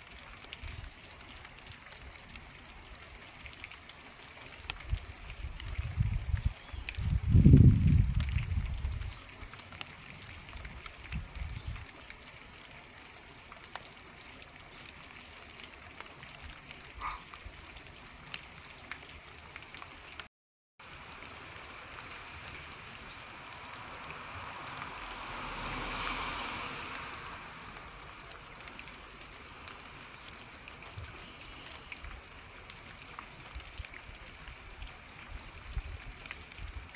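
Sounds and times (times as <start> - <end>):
water dripping: 0.0 - 36.9.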